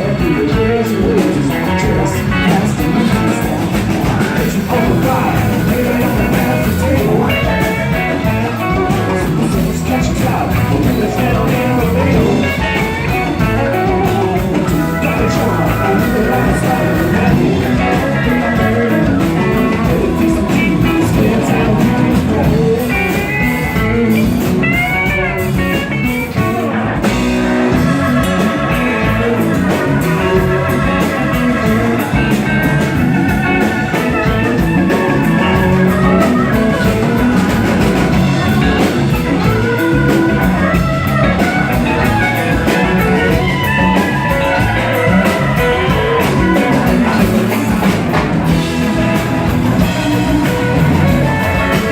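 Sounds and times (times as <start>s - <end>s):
drum kit beat: 0.0s - 51.9s
electric guitar: 0.0s - 51.9s.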